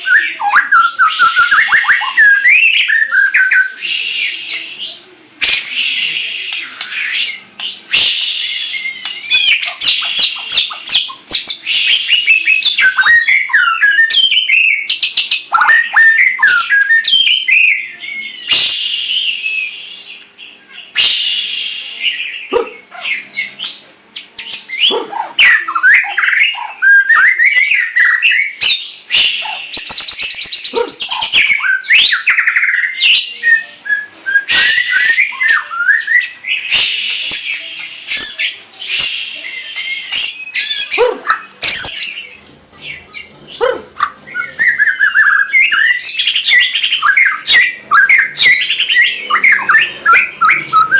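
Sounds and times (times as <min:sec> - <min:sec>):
songbird singing: 0:00.0 - 0:50.9.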